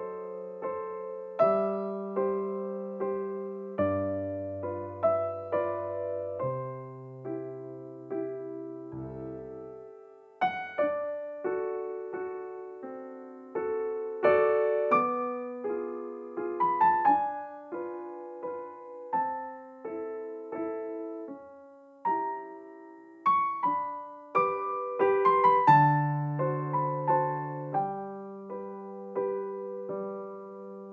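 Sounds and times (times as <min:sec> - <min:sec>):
solo piano music: 0:00.0 - 0:30.9.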